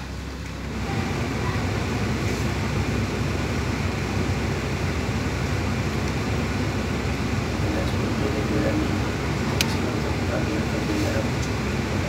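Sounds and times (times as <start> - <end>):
car blower fan rushing air: 0.0 - 12.0.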